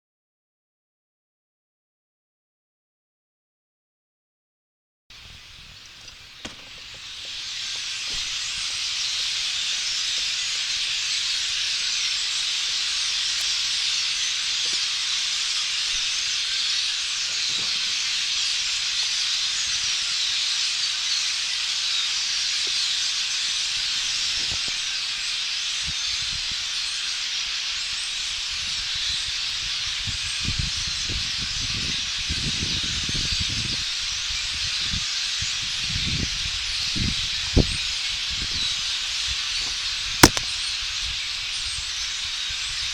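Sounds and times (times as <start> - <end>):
flock of blackbirds calling: 5.2 - 42.9.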